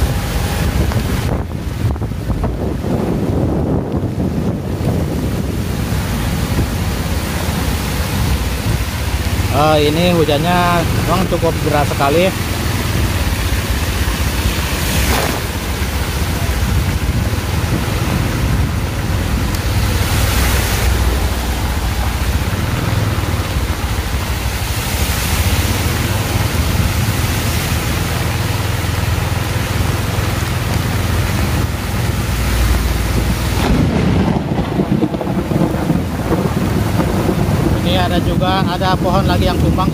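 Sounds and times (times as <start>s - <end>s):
heavy rain hissing: 0.0s - 39.9s
wind buffeting microphone: 0.0s - 39.9s.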